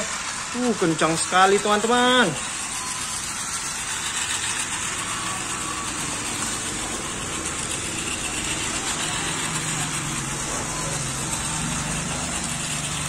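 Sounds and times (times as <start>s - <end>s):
toy train motors whirring: 0.0s - 13.0s.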